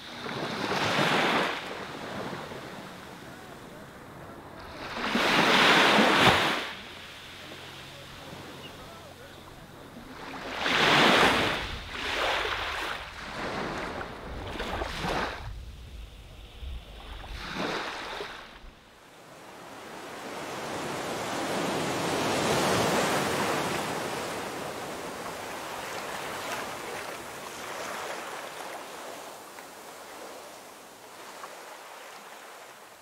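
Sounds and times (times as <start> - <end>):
sea waves washing in: 0.0 - 33.0.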